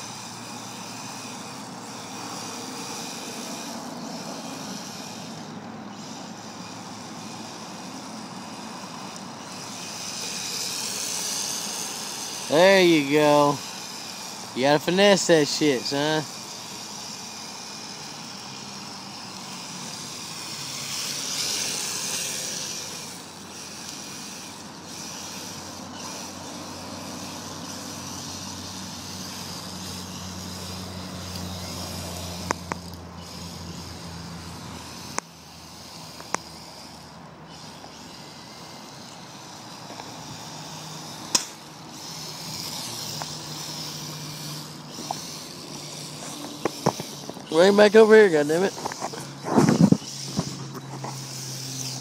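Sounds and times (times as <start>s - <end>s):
toy car motor and tyre noise: 0.0s - 52.0s.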